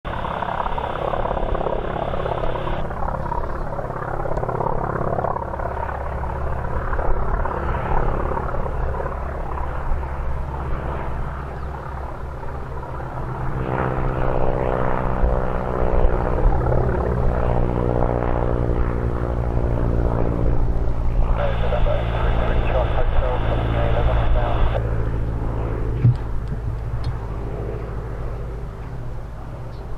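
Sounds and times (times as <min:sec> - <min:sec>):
propeller aircraft engine overhead: 0:00.1 - 0:29.9.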